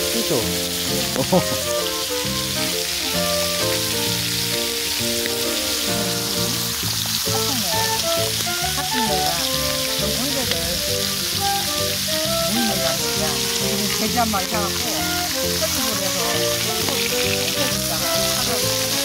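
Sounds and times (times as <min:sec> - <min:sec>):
music playing: 0:00.0 - 0:19.0
pork sizzling on a griddle: 0:00.0 - 0:19.0.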